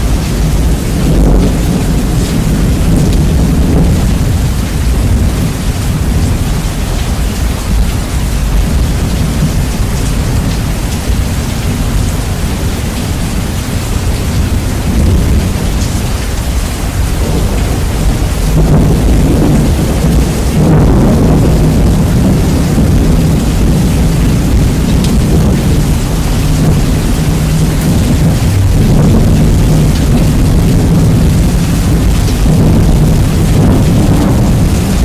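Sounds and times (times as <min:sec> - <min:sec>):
heavy rain: 0:00.0 - 0:35.0
thunder rumbling: 0:00.0 - 0:35.0.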